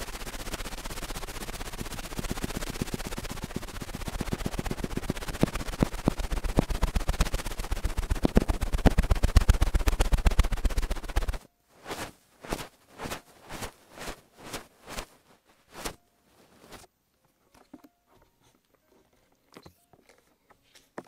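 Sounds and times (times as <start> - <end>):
tool brushing across microphone: 0.0 - 16.9.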